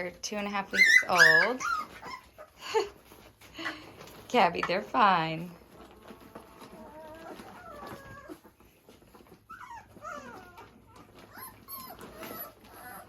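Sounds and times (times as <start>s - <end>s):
puppies whimpering and squeaking: 0.0s - 4.3s, 5.0s - 13.0s.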